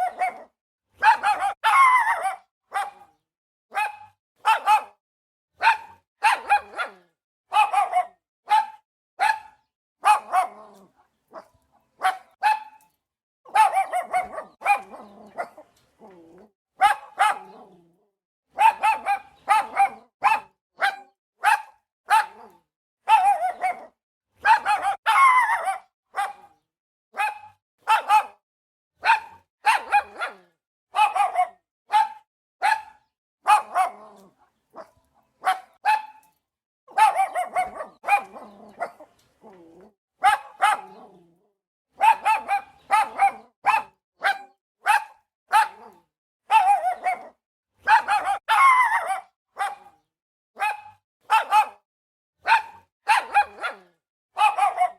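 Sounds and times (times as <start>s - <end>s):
dog barking: 0.0s - 12.9s, 13.5s - 16.2s, 16.8s - 17.9s, 18.5s - 28.4s, 29.0s - 39.6s, 40.2s - 41.3s, 41.9s - 54.9s.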